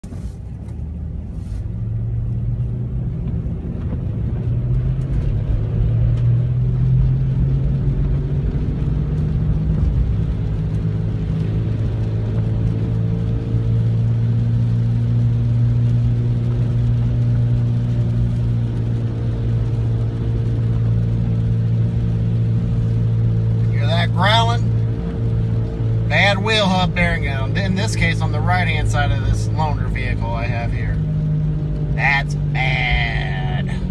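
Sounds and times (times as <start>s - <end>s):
road noise: 0.0s - 33.9s.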